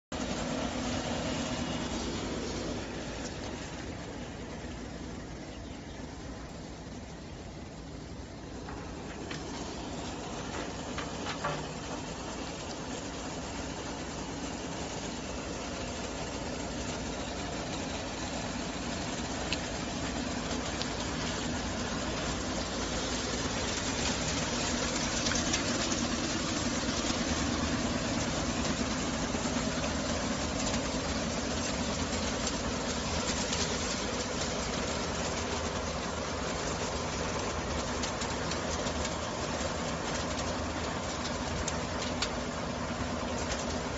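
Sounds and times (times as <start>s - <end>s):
street sweeper machine hum: 0.0s - 43.9s.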